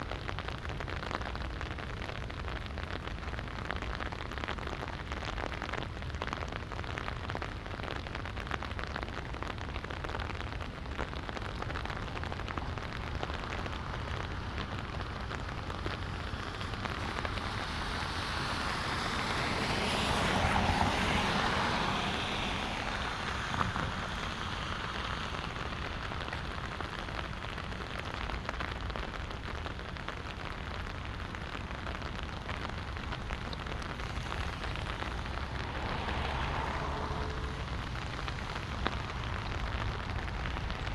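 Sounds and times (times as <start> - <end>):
light rain pattering on ground: 0.0 - 40.9.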